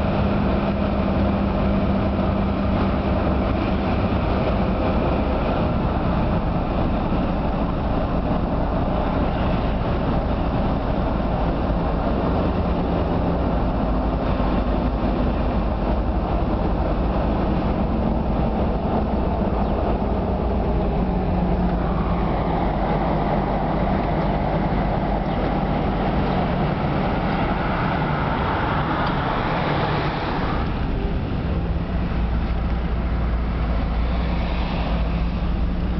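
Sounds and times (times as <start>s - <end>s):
car engine and tyre rumble: 0.0s - 35.9s
wind and tyre hiss: 0.0s - 35.9s.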